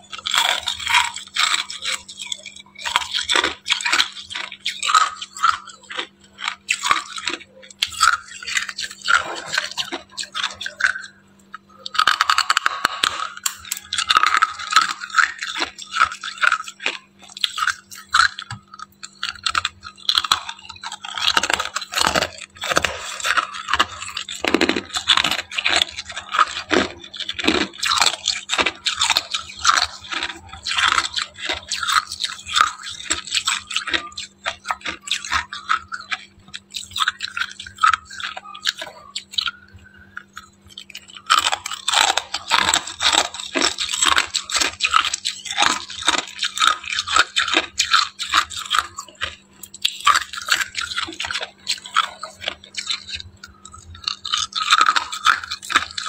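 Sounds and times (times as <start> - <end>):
faint low hum: 0.0 - 56.0
frost crunching: 0.0 - 56.0.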